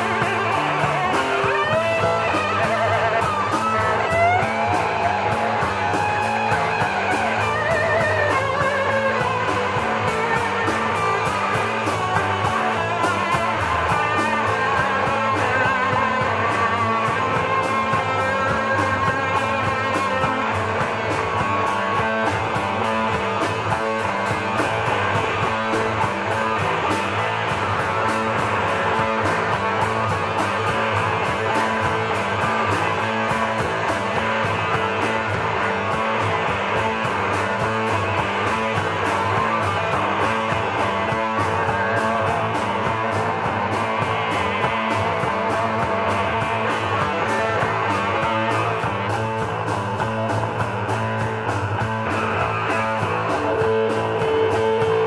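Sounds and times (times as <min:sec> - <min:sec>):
rock band playing: 0:00.0 - 0:55.0
wavering electric guitar lead: 0:00.0 - 0:55.0.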